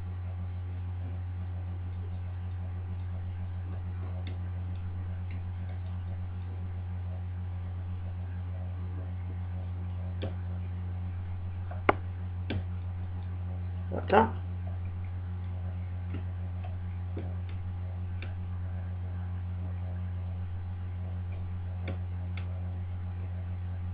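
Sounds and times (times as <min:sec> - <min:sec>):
low electrical hum: 0:00.0 - 0:23.9.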